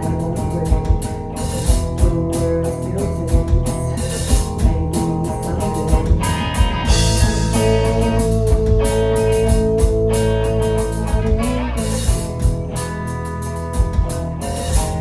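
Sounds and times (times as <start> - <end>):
drums and cymbals: 0.0 - 15.0.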